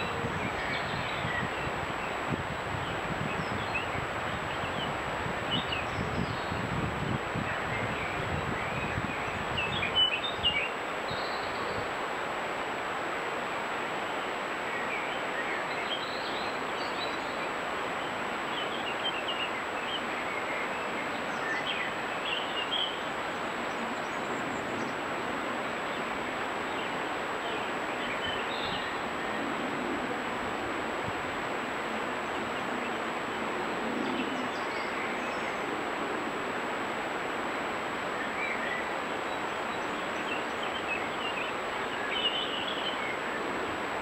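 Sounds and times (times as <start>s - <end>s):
songbirds chirping: 0.0s - 44.0s
steady hiss: 0.0s - 44.0s.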